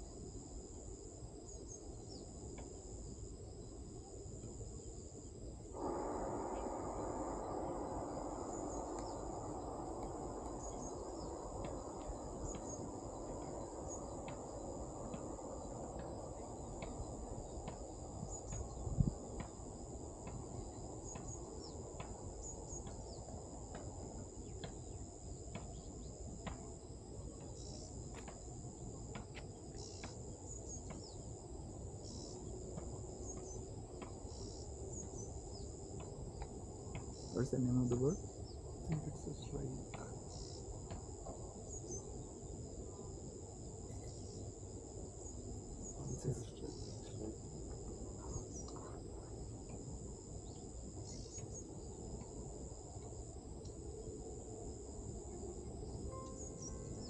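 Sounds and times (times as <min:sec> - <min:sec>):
high-pitched insect drone: 0:00.0 - 0:57.0
low rumbling background: 0:00.1 - 0:53.7.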